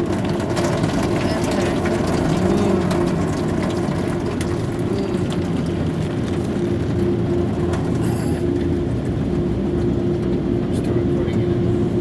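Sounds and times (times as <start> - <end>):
car wash machinery rumbling: 0.0 - 12.0
machine hum: 0.0 - 12.0.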